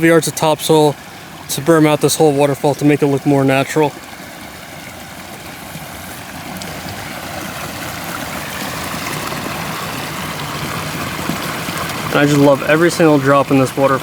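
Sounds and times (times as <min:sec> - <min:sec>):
waterfall splashing: 0:00.0 - 0:14.0.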